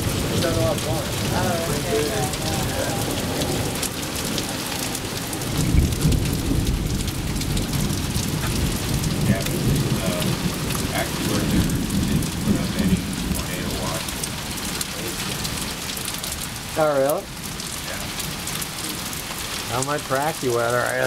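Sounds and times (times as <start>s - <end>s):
heavy rain pouring: 0.0s - 21.0s
thunder rumbling: 0.0s - 21.0s.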